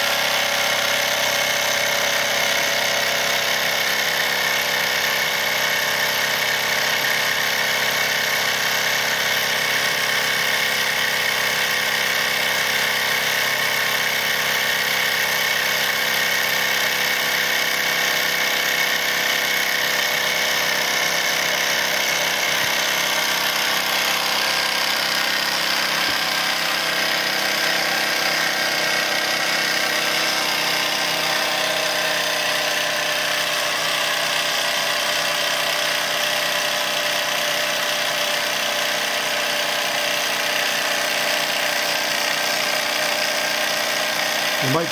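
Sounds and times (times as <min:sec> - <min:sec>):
toy steam engine running: 0:00.0 - 0:44.9.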